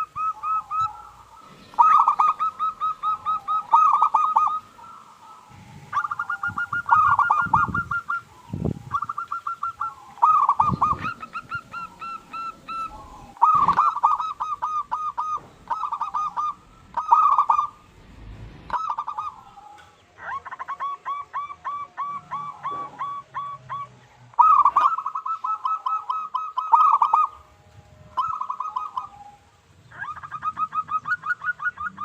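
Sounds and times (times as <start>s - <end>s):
dove cooing: 0.0s - 32.0s.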